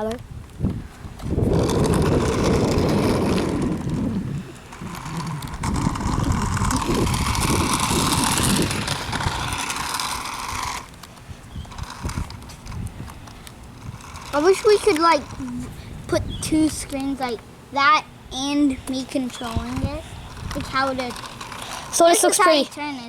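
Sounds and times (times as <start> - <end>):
steady whine: 0.0 - 23.0
toy car motor whirring: 1.2 - 23.0.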